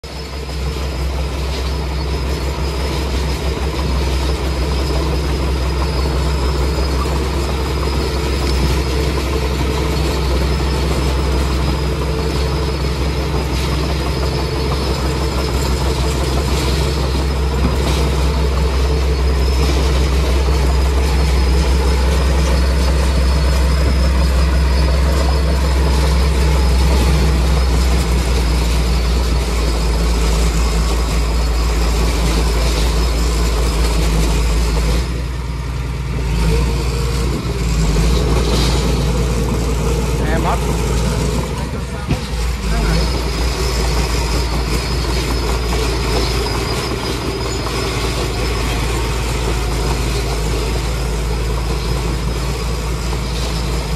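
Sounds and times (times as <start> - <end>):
bulldozer diesel engine drone: 0.0 - 53.9.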